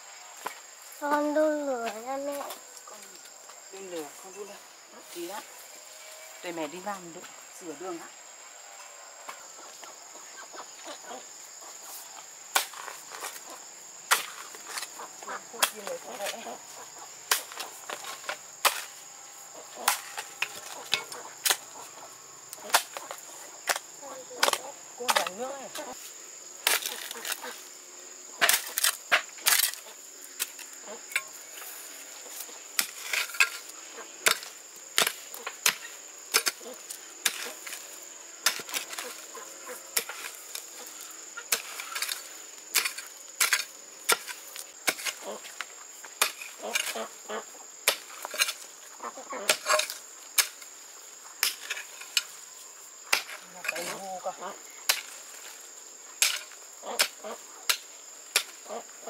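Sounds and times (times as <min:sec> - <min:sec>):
insects buzzing: 0:00.0 - 0:59.0.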